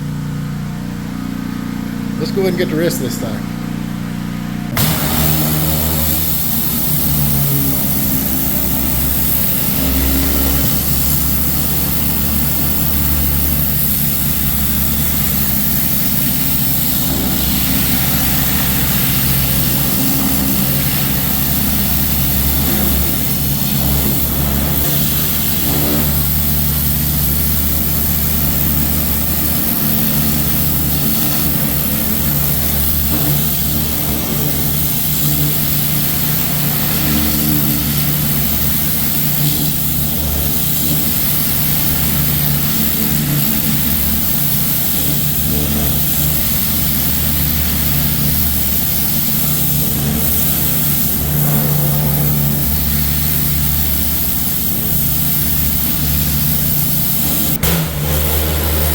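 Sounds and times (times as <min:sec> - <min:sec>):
pressure washer engine running: 0:00.0 - 0:58.9
water spray hissing: 0:04.7 - 0:58.9.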